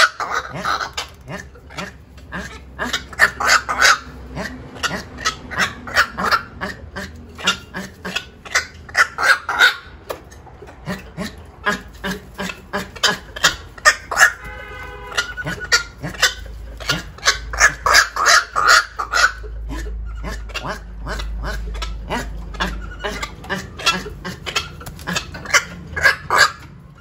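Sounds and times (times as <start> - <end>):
heron croaking harshly: 0.0 - 27.0.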